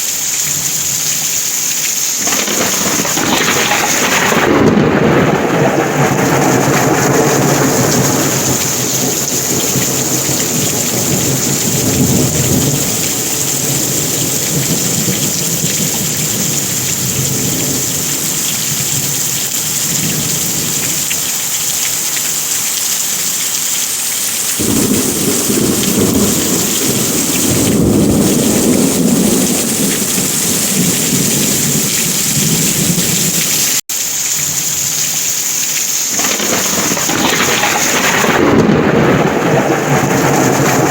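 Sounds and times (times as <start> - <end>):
heavy rain falling: 0.0 - 40.9
thunder rumbling: 2.1 - 21.3, 24.5 - 33.8, 36.0 - 40.9.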